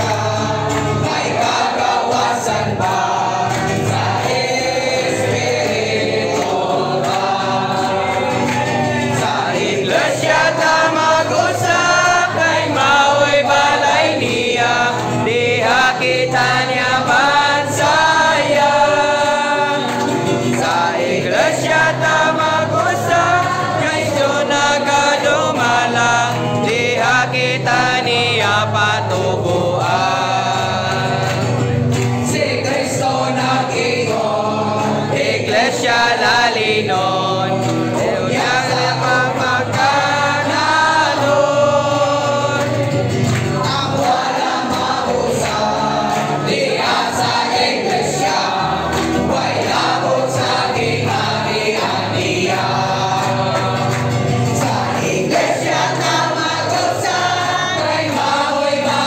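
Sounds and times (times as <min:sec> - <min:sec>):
congregation singing a hymn: 0:00.0 - 0:59.0
leaders singing into microphones: 0:00.0 - 0:59.0.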